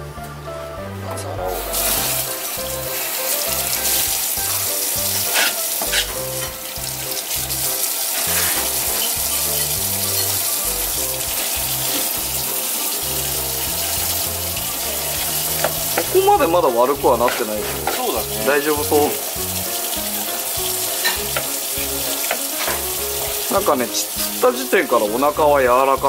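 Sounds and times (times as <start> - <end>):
background music: 0.0 - 26.0
tap water running into sink: 1.8 - 26.0.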